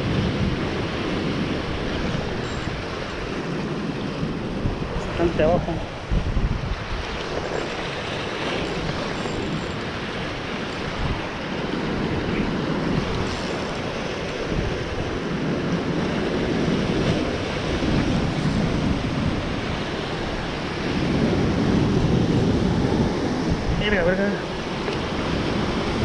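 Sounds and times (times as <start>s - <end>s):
waves washing: 0.0s - 26.0s
wind buffeting microphone: 0.0s - 26.0s.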